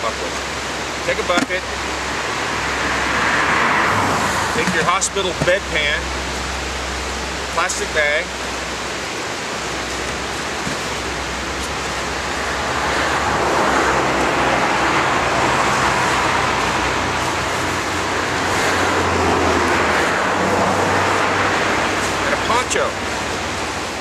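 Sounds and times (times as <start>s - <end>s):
creek rapids rushing: 0.0s - 24.0s.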